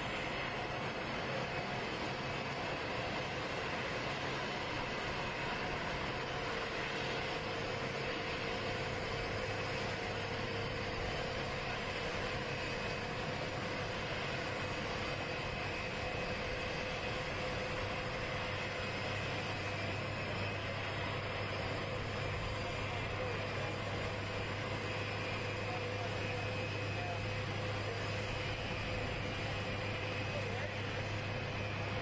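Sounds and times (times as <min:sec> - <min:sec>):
jet engines idling: 0:00.0 - 0:32.0.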